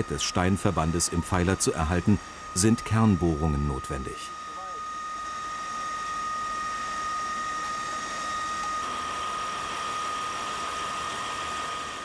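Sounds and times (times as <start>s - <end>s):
core drill whining into stone: 0.0s - 12.0s.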